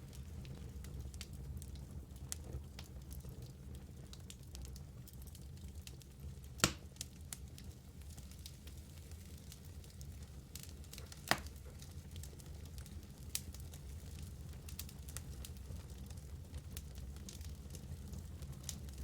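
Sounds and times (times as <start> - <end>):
flames rumbling: 0.0 - 19.0
logs crackling and popping: 0.1 - 19.0.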